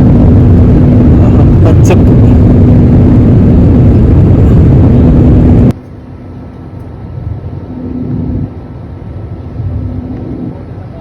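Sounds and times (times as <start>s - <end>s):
airliner engines and airflow rushing: 0.0s - 11.0s
dull cabin drone: 0.0s - 11.0s
faint hum: 0.0s - 11.0s.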